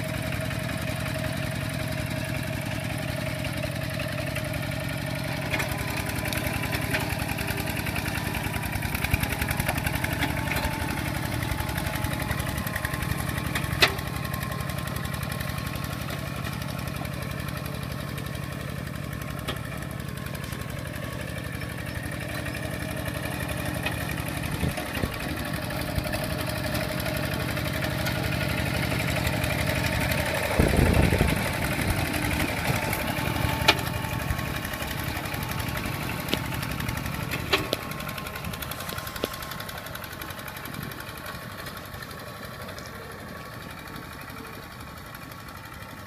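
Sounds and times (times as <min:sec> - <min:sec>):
diesel tractor engine running: 0:00.0 - 0:46.0.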